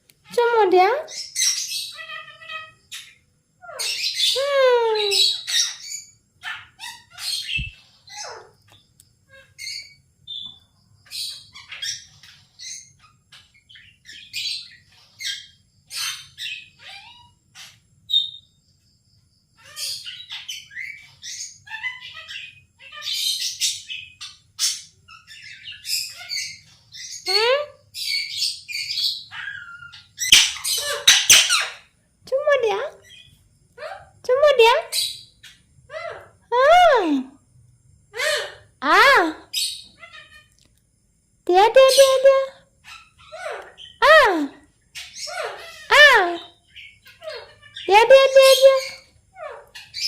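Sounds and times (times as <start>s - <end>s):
parrot chirping and squawking: 0.2s - 18.4s, 19.6s - 31.9s, 32.6s - 37.1s, 38.2s - 40.5s, 41.6s - 50.0s.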